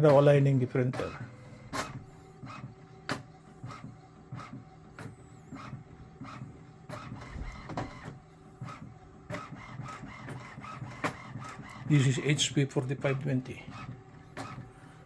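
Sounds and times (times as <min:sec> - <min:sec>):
inkjet printer whirring and clicking: 0:00.0 - 0:15.0.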